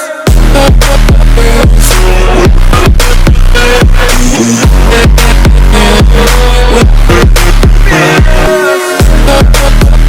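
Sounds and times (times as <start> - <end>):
electronic dance music: 0.0 - 10.0
kick drum beat: 0.3 - 1.9, 2.5 - 6.2, 6.8 - 10.0.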